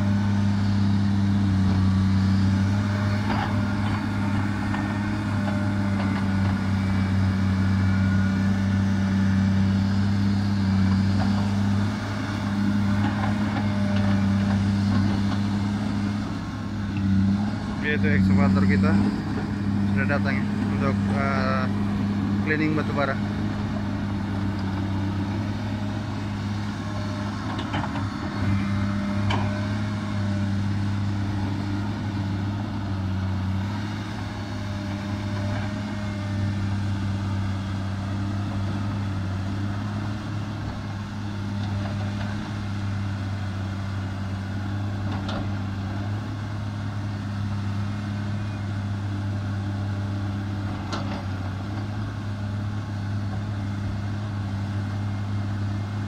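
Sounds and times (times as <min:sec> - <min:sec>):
excavator diesel engine humming: 0:00.0 - 0:56.0.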